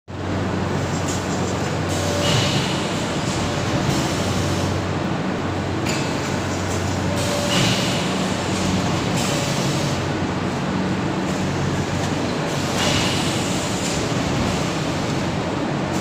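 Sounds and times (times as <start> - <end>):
machine mechanical hum: 0.1 - 16.0.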